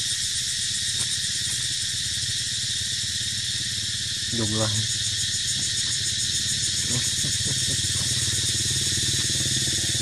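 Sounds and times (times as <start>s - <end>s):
constant high hiss: 0.0s - 10.0s
low mechanical drone: 0.3s - 10.0s.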